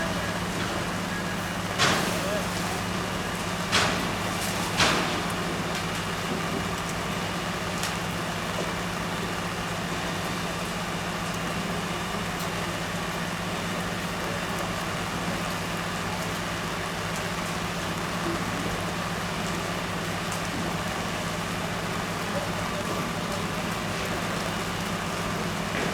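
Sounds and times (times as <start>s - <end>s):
fire engine running: 0.0s - 25.9s.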